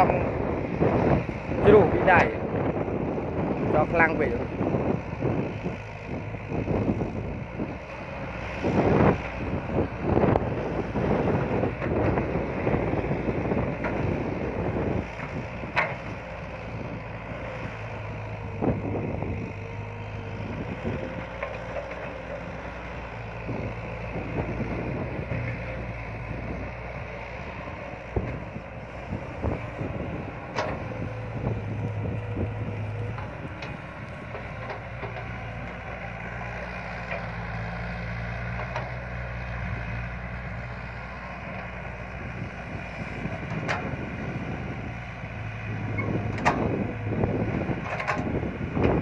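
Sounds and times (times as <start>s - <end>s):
excavator diesel engine running: 0.0s - 49.0s
excavator digging soil: 0.0s - 49.0s
wind buffeting microphone: 0.0s - 49.0s.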